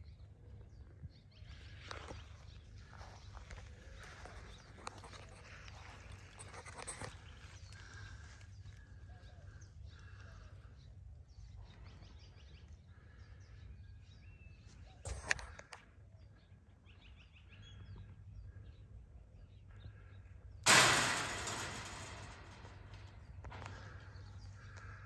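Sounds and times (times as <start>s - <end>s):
faint birds chirping: 0.0s - 25.0s
outdoor background noise: 0.0s - 25.0s.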